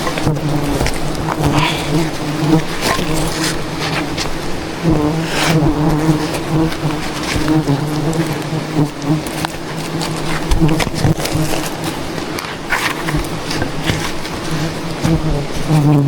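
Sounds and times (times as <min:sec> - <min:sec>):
bee swarm buzzing: 0:00.0 - 0:16.0.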